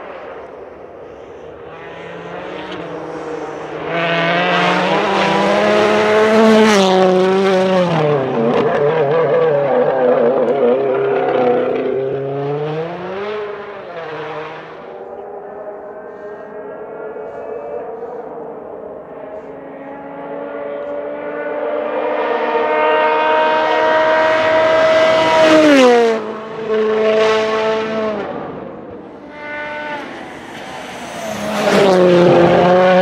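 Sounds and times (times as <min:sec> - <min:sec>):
rally car engine accelerating: 0:01.5 - 0:33.0.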